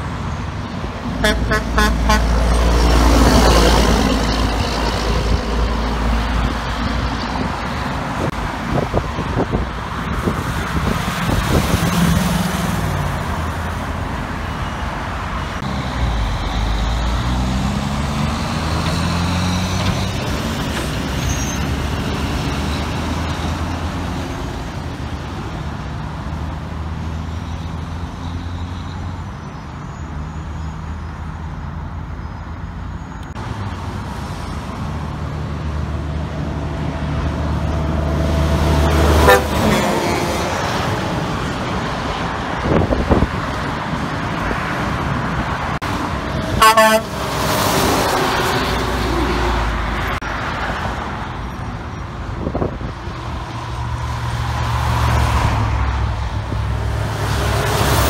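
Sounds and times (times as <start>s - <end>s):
dump truck engines: 0.0s - 58.0s
road traffic: 0.0s - 58.0s.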